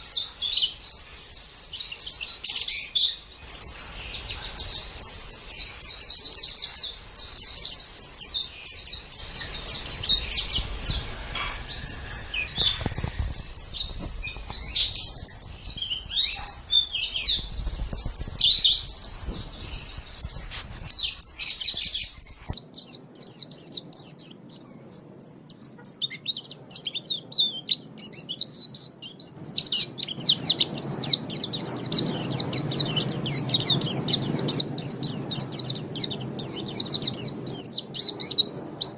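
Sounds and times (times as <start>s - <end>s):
bird twittering chirps: 0.0s - 38.9s.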